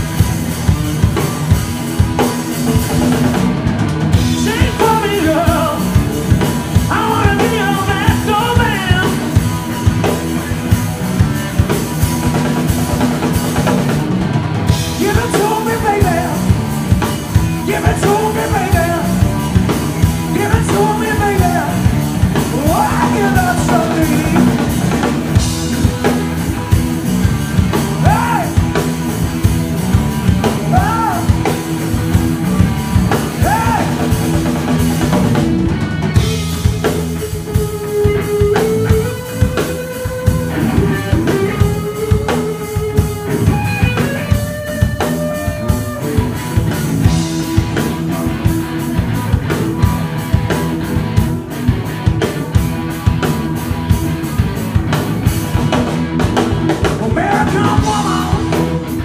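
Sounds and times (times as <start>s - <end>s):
lead guitar bending notes: 0.0s - 59.0s
live rock band playing: 0.0s - 59.0s.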